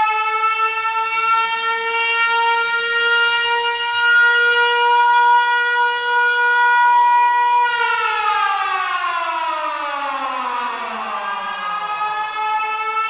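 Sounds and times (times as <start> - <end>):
siren-like tone: 0.0 - 13.0.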